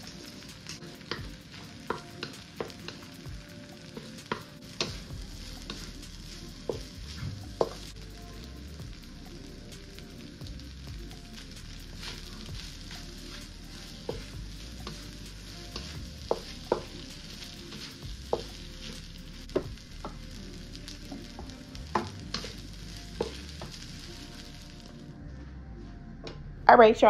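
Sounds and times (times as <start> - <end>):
food sizzling in a pan: 0.0 - 25.1.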